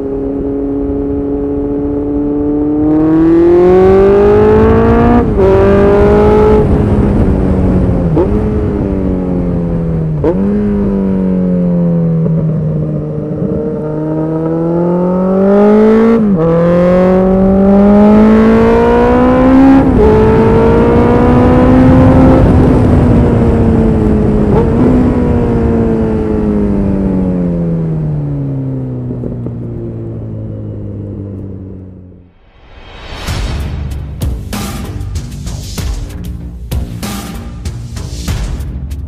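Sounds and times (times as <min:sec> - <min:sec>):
motorcycle engine accelerating: 0:00.0 - 0:32.4.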